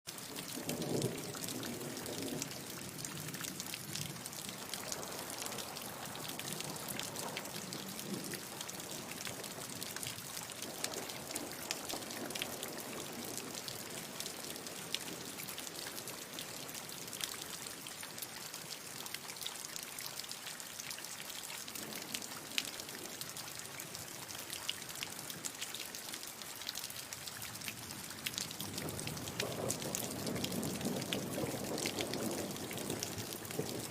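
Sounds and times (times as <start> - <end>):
raindrops hitting: 0.0 - 33.9
steady rain hiss: 0.1 - 33.9.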